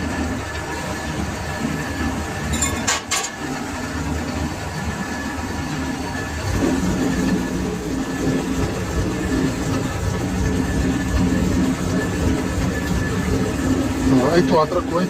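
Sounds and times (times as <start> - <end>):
lathe running: 0.0 - 15.0.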